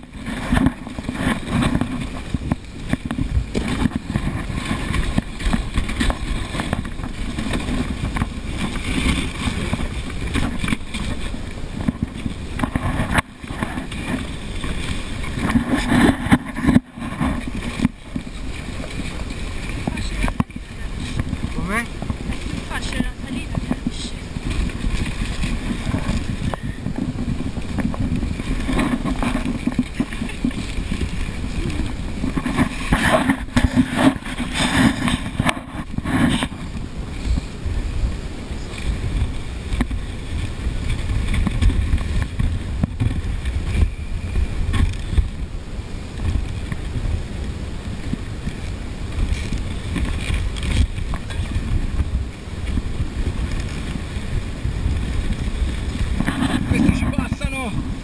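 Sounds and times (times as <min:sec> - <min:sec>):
sled runners scraping on snow: 0:00.0 - 0:58.0
wind buffeting microphone: 0:00.0 - 0:58.0.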